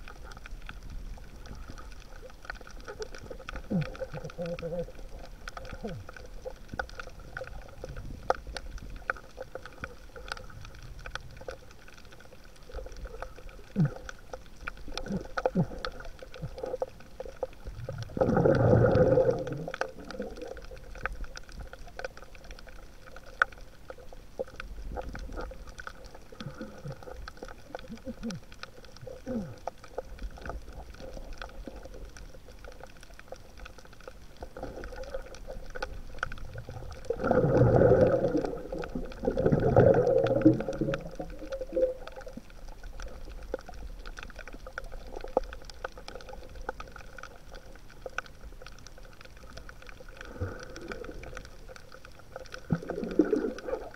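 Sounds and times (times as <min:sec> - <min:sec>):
underwater clicks and crackles: 0:00.0 - 0:53.9
underwater low wash: 0:00.0 - 0:53.9
underwater rushes: 0:00.0 - 0:53.9.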